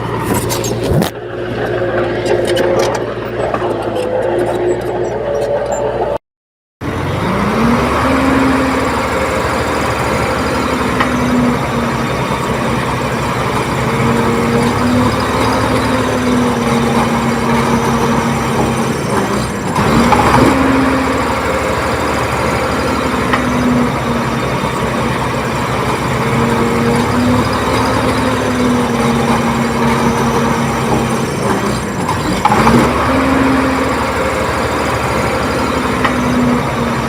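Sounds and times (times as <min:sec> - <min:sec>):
bulldozer diesel engine running: 0:00.0 - 0:06.2, 0:06.8 - 0:37.0.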